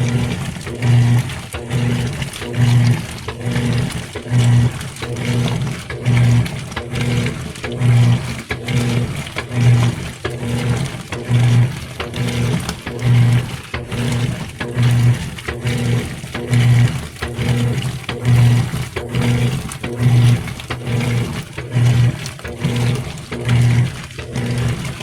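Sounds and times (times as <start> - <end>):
washer motor humming in strokes: 0.0 - 25.0
water sloshing in drum: 0.0 - 25.0.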